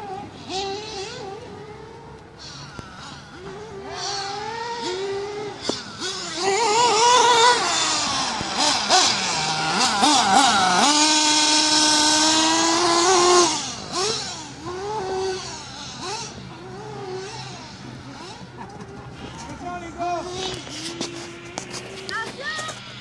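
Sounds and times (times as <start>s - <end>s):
rc truck motor buzzing: 0.0s - 23.0s.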